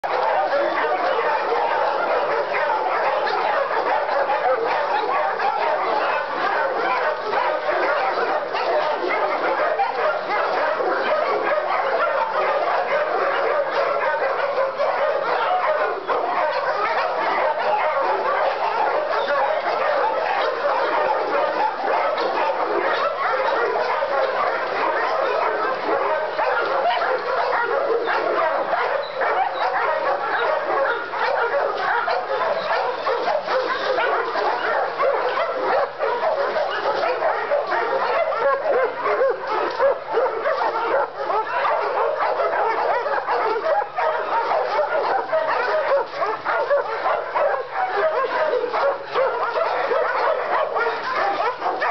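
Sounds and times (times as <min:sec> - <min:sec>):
dogs barking and yipping: 0:00.0 - 0:51.9.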